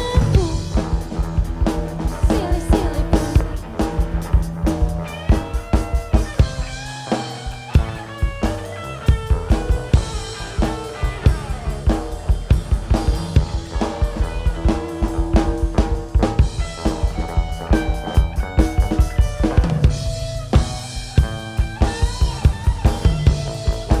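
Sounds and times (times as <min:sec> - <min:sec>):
drum kit beat: 0:00.0 - 0:24.0
rock band playing: 0:00.0 - 0:24.0.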